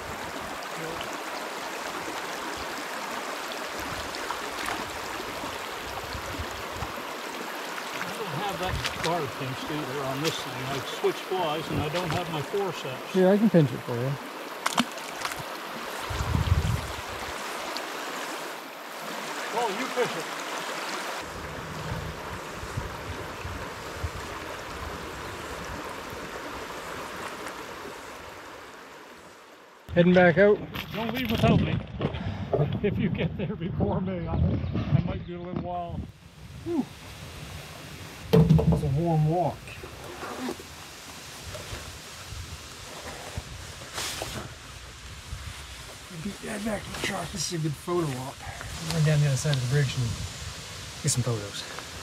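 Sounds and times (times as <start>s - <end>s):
small stream running: 0.0s - 32.0s, 36.1s - 52.0s.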